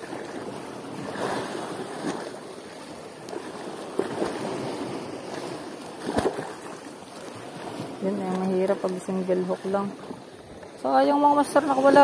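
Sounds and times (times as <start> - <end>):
water lapping against rocks: 0.0 - 12.0.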